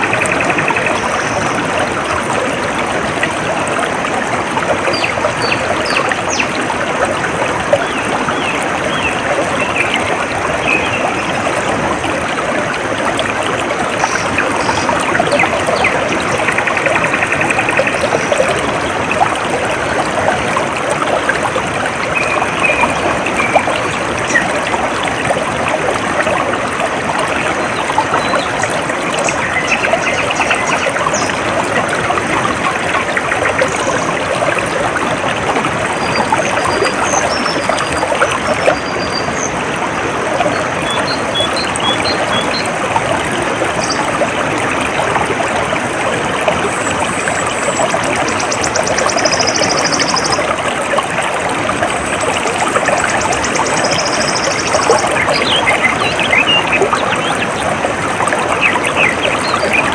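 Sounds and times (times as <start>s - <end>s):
stream water trickling: 0.0s - 59.9s.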